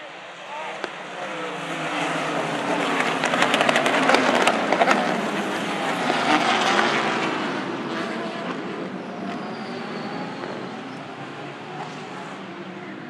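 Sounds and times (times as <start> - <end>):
race cars passing: 0.0 - 13.0.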